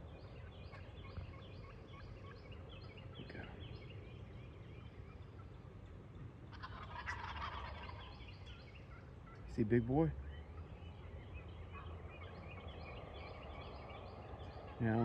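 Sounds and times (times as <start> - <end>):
wild turkeys yelping: 0.1 - 15.0.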